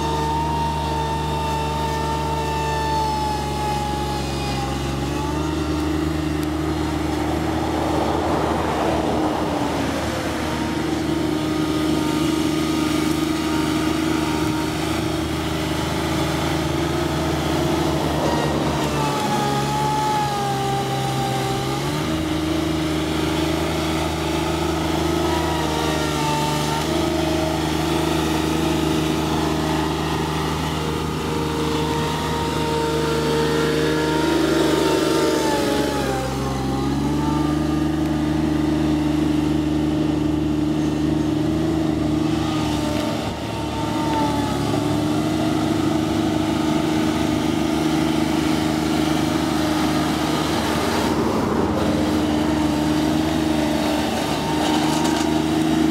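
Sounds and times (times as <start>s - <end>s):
diesel mower engine running: 0.0s - 55.9s.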